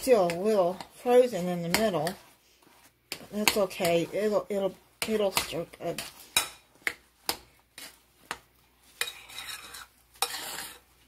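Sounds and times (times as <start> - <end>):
spoon scraping bowl: 0.0 - 11.0.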